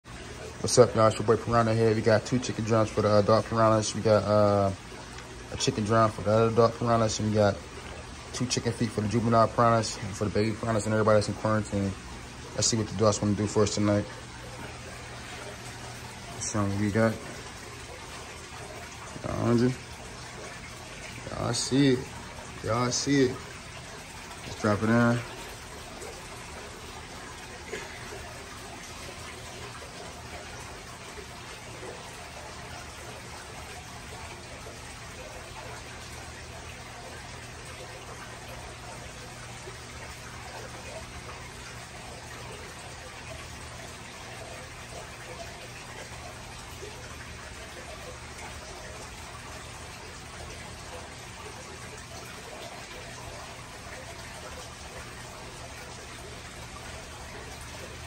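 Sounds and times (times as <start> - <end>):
aquarium water trickling: 0.0 - 58.0
low even hum: 0.1 - 58.0.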